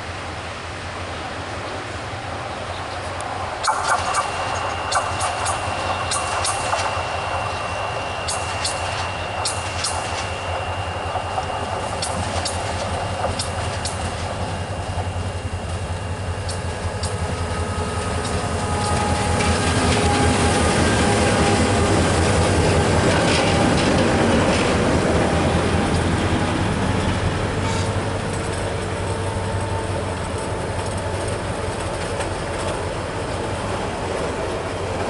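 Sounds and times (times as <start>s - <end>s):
diesel locomotive engine droning: 0.0s - 35.0s
train wheels clacking on rails: 3.6s - 35.0s.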